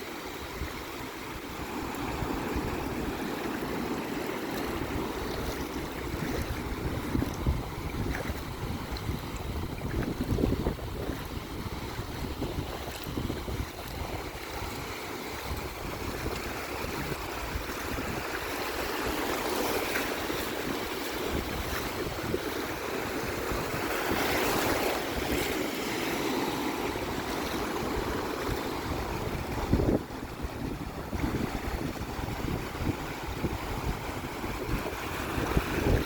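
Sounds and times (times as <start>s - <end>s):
sea waves washing on shore: 0.0s - 36.0s
wind buffeting microphone: 0.5s - 25.6s, 26.8s - 36.0s.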